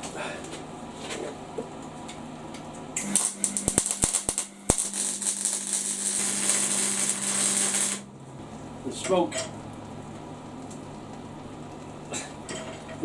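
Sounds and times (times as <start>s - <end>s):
low electrical hum: 0.0s - 13.0s
welding arc crackling: 2.5s - 13.0s.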